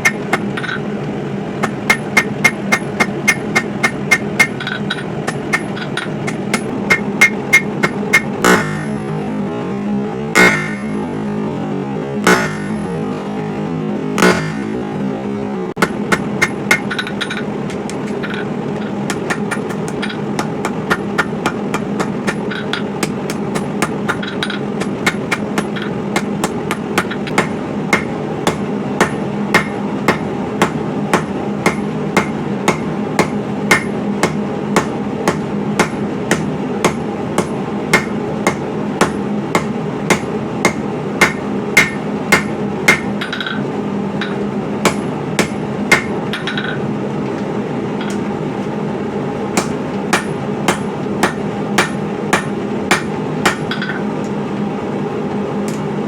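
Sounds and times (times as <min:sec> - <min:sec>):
hammer striking steel on anvil: 0:00.0 - 0:01.0, 0:01.6 - 0:09.3, 0:10.4 - 0:11.4, 0:12.2 - 0:13.3, 0:14.2 - 0:15.0, 0:15.8 - 0:46.8, 0:48.0 - 0:48.3, 0:49.6 - 0:54.1
low hum: 0:00.0 - 0:56.0.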